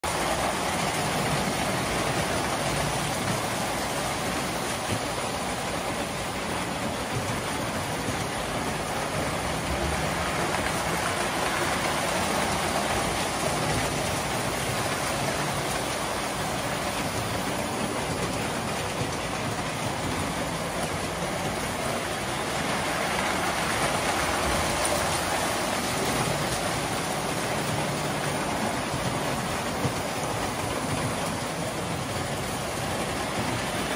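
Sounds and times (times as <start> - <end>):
toy trains rattling on track: 0.1 - 33.9.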